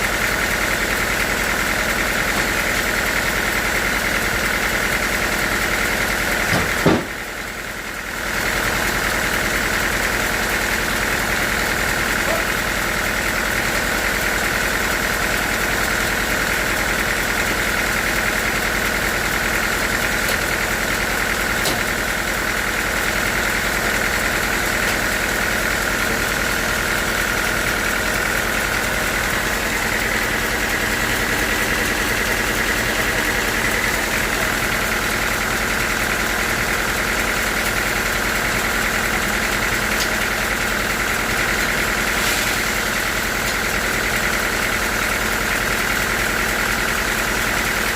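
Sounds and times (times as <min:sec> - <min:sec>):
sawmill machinery whining: 0:00.0 - 0:47.9.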